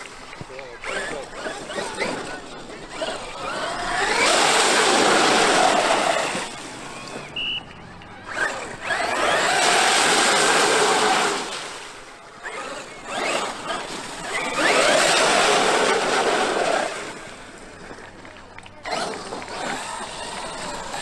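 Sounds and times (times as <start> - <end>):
rc truck motor and tyres: 0.0 - 21.0.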